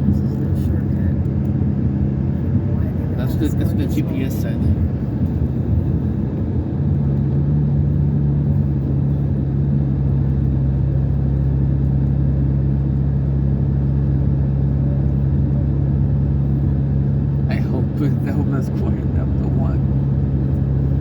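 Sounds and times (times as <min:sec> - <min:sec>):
car engine and road rumble: 0:00.0 - 0:21.0
steady low hum: 0:00.0 - 0:21.0.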